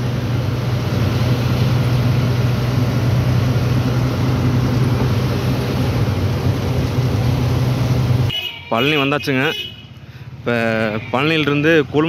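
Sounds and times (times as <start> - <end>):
lorry diesel engine running: 0.0 - 12.0
road and wind noise: 0.0 - 12.0.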